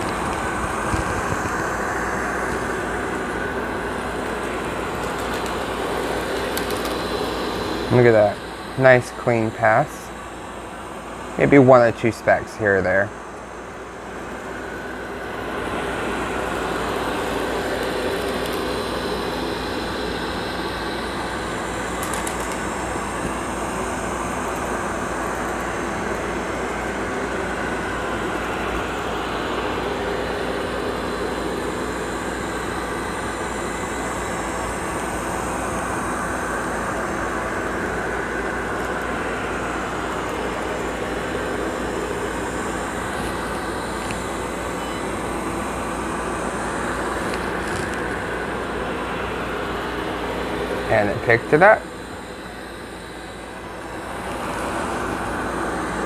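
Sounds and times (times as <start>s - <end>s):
robot vacuum running on carpet: 0.0s - 10.5s, 13.6s - 56.0s.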